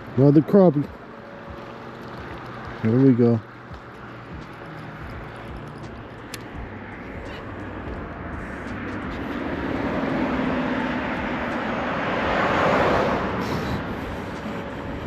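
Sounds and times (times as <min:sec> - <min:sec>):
engine passing by: 0:00.0 - 0:15.0.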